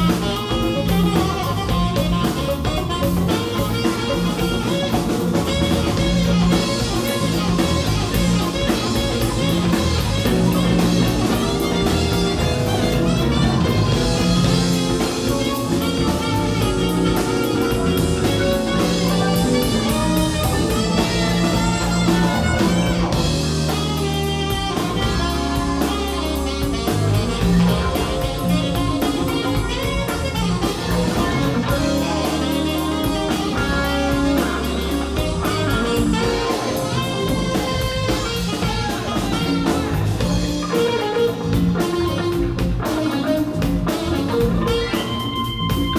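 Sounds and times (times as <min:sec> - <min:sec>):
alto saxophone line: 0:00.0 - 0:45.9
bass: 0:00.0 - 0:45.9
drum kit: 0:00.0 - 0:45.9
electric guitar: 0:00.0 - 0:45.9
keyboards: 0:00.0 - 0:45.9.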